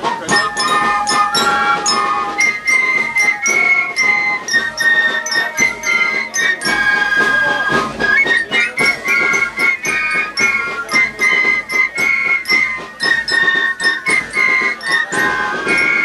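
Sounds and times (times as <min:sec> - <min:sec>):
bell lyra: 0:00.0 - 0:16.0
flutes playing a tune: 0:00.0 - 0:16.0
steady drum beat: 0:00.0 - 0:16.0.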